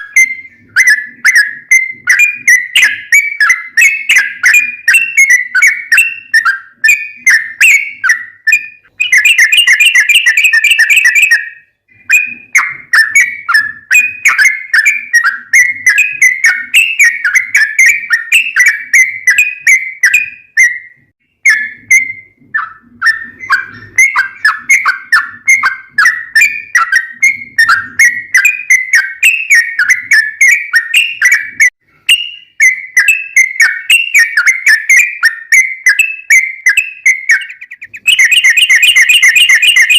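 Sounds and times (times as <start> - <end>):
bird singing chattering whistles: 0.0 - 39.9.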